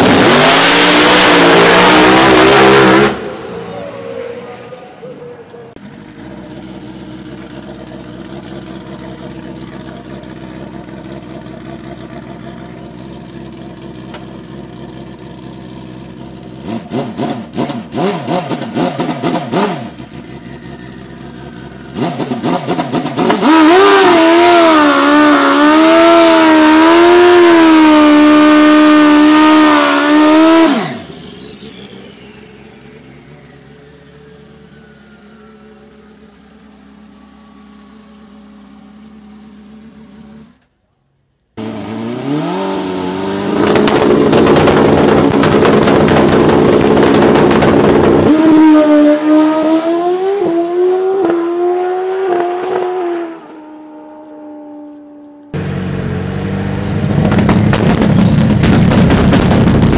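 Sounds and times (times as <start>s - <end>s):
motorcycle engine revving: 0.0s - 40.8s, 41.6s - 59.9s.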